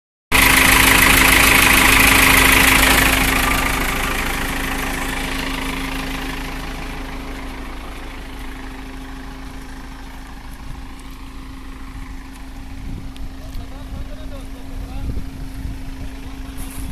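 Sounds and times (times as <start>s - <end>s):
diesel engine running: 0.3s - 16.9s.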